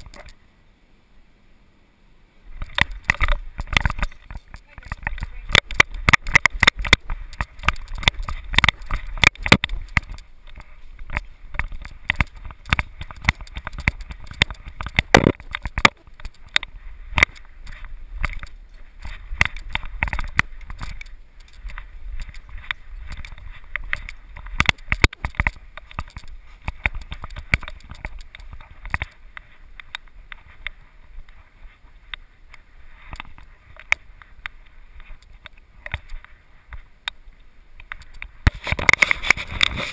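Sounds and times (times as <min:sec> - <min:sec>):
camera knocking and rattling: 0:00.0 - 0:00.4, 0:02.6 - 0:31.4, 0:33.1 - 0:34.1, 0:35.0 - 0:36.3, 0:37.8 - 0:39.9.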